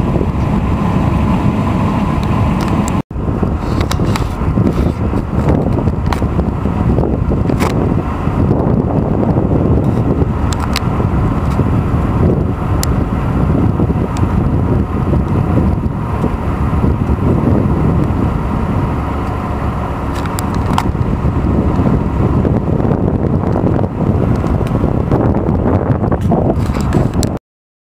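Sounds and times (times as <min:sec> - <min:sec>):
car interior road and engine rumble: 0:00.0 - 0:27.4.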